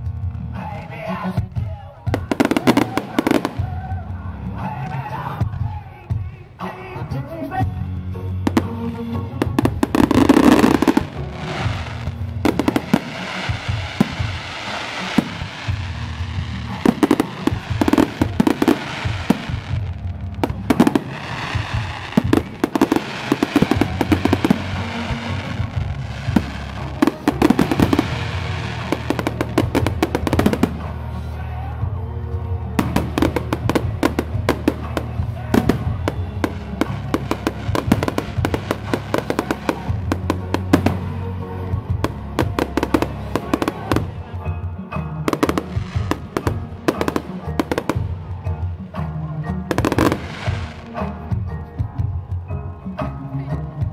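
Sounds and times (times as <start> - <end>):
fireworks bangs and crackles: 0.0 - 6.7, 8.4 - 52.3
loud show music with bass: 0.0 - 53.9.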